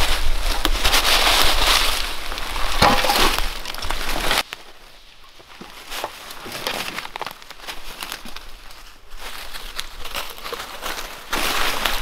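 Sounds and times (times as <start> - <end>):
shovel scraping in dry leaves: 0.0 - 4.5, 5.7 - 12.0
leaves crunching: 0.0 - 12.0.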